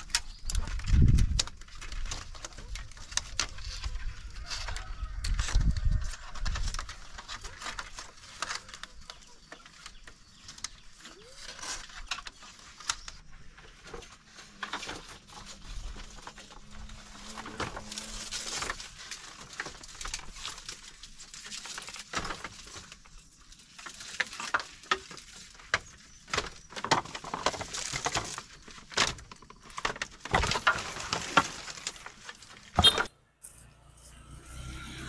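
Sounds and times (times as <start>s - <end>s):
rustling and scraping: 0.0s - 35.0s.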